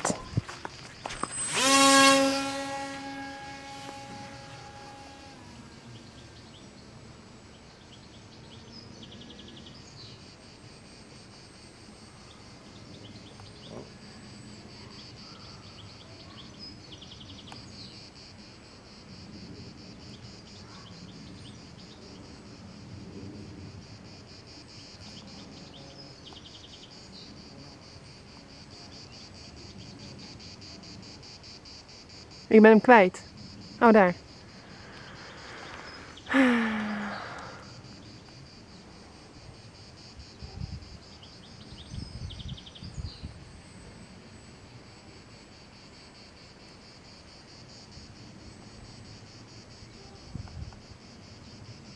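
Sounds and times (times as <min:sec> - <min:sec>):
insect trills: 0:00.0 - 0:51.9
insects chirring: 0:00.0 - 0:51.9.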